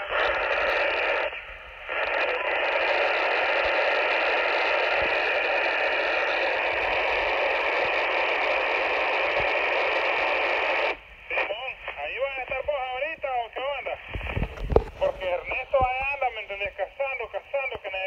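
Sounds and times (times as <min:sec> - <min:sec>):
walkie-talkie static hiss: 0:00.0 - 0:18.0.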